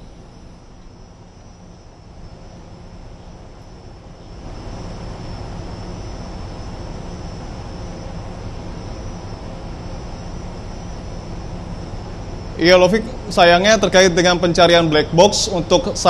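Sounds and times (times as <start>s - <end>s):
ship machinery rumble: 0.0s - 16.0s
wind: 0.0s - 16.0s.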